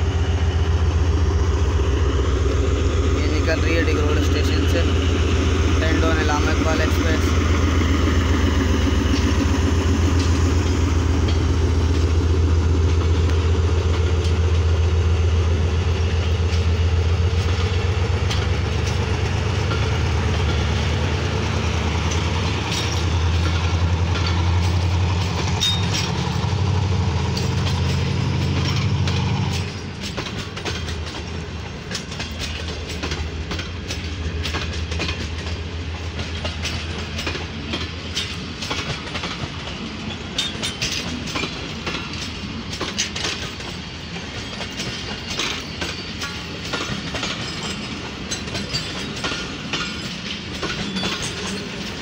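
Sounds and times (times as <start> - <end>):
diesel locomotive engine drone: 0.0 - 52.0
wheels clacking over rail joints: 0.0 - 52.0.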